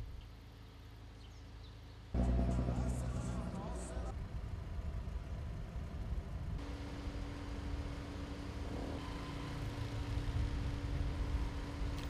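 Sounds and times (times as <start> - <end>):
road traffic rumble: 0.0 - 12.0
motorcycle approaching: 2.2 - 12.0
steady hum: 2.2 - 12.0.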